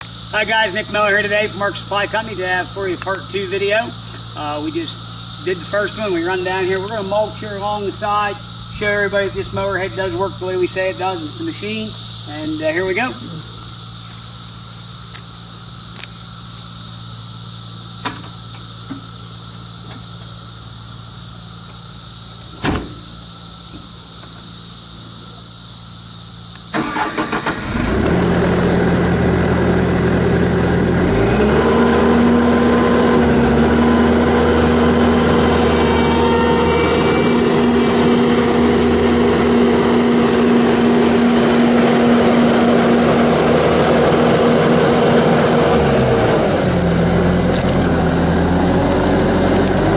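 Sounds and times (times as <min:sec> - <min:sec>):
diesel engine idling and revving: 0:00.0 - 0:49.9
mulcher head high-speed whine: 0:00.0 - 0:49.9.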